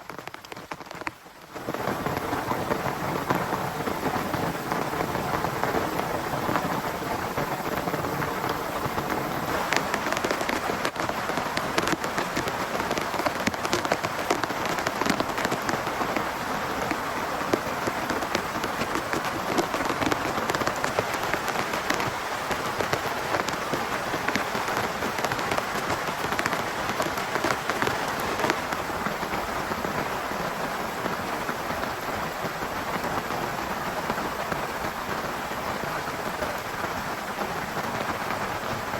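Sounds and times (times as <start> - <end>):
heavy rain on a tent: 0.0 - 38.9.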